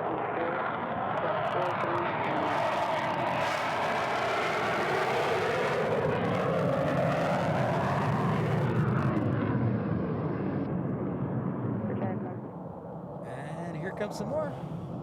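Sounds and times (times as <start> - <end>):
jet aircraft passing: 0.0 - 15.0.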